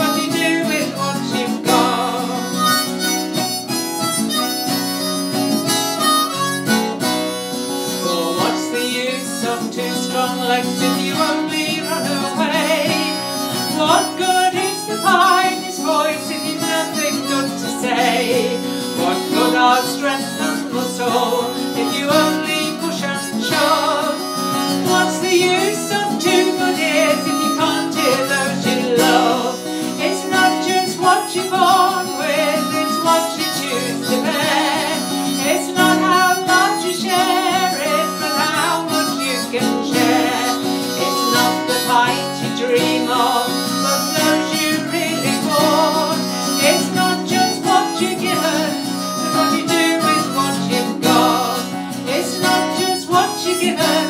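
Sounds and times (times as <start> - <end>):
woman singing: 0.0 - 3.0, 8.0 - 54.0
harmonica playing: 0.0 - 54.0
strummed acoustic guitar: 0.0 - 54.0.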